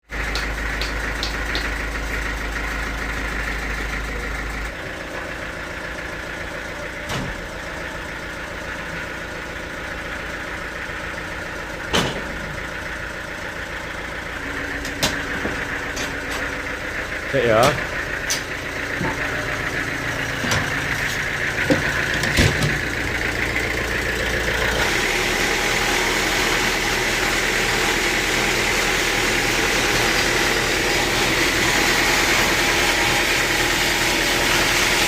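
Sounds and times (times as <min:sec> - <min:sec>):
sawmill machinery humming: 0:00.1 - 0:35.0.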